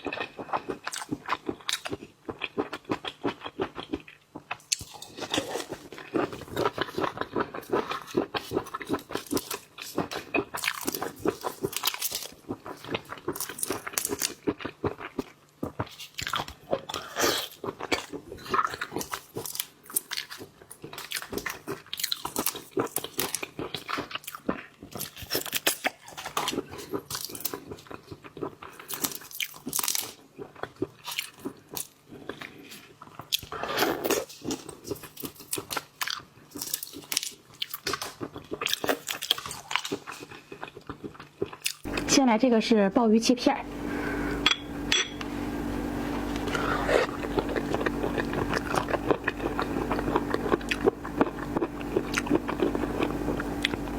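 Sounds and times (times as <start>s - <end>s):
crunchy bites of seafood: 0.0s - 42.1s, 45.9s - 53.9s
wet chewing and smacking: 0.0s - 42.1s, 46.2s - 53.9s.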